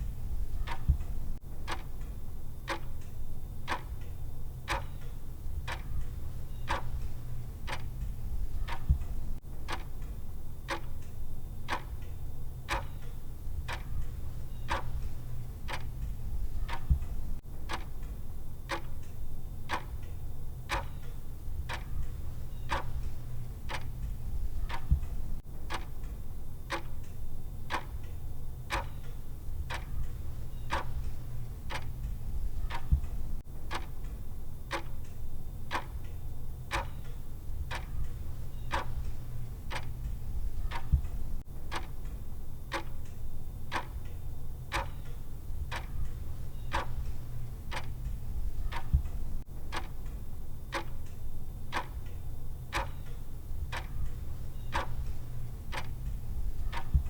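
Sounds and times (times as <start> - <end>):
clock-style timer ticking: 0.0 - 57.0
steady low hum: 0.0 - 57.0.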